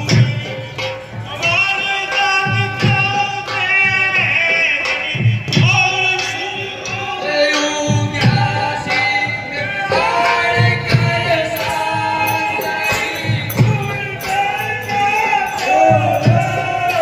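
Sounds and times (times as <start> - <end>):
drum strokes: 0.0 - 17.0
voices singing through loudspeakers: 0.0 - 17.0.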